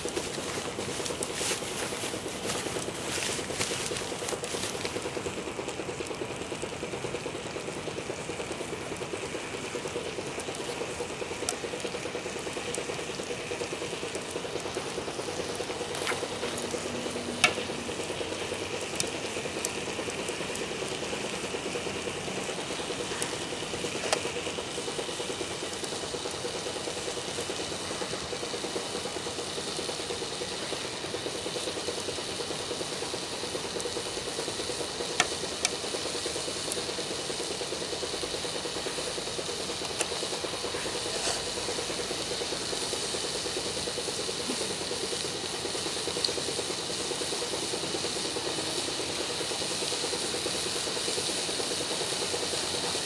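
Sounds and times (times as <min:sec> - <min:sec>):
bacon sizzling in skillet: 0:00.0 - 0:53.0.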